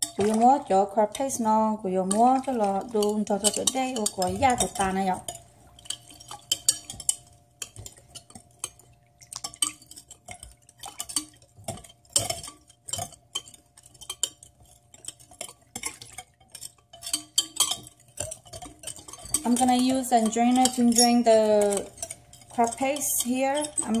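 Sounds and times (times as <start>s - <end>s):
spoon stirring and clinking in bowl: 0.0s - 24.0s.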